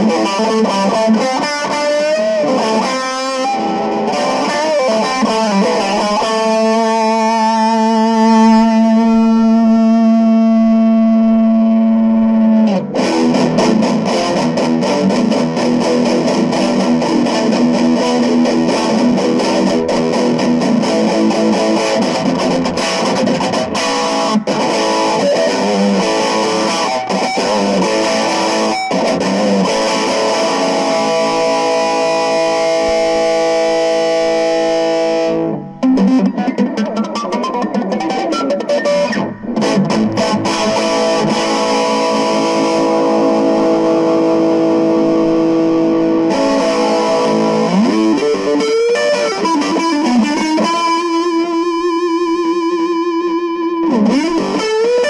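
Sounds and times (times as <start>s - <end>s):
electric guitar playing: 0.0s - 55.0s.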